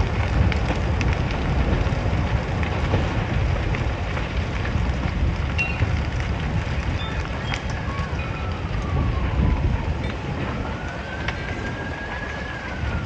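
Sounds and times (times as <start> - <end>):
burning timber crackling: 0.0 - 13.0
roar of flames: 0.0 - 13.0.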